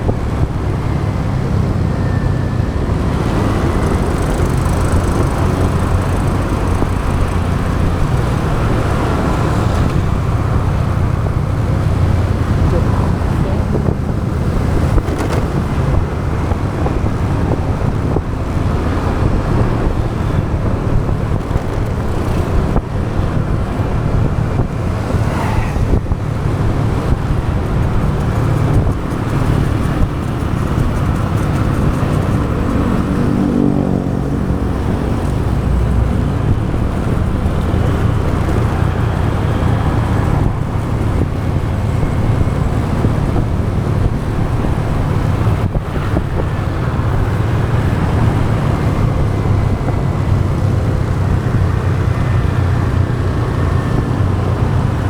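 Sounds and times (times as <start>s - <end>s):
motorbike engine running: 0.0s - 55.0s
road and wind noise: 0.0s - 55.0s
vehicle passing close: 0.0s - 55.0s.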